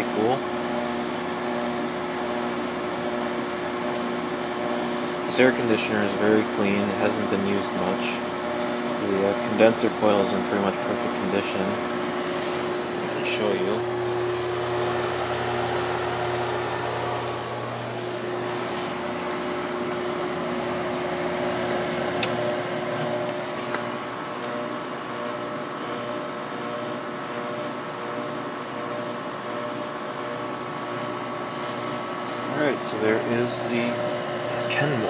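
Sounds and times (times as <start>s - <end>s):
air conditioner fan rushing: 0.0s - 35.0s
compressor hum: 0.0s - 35.0s.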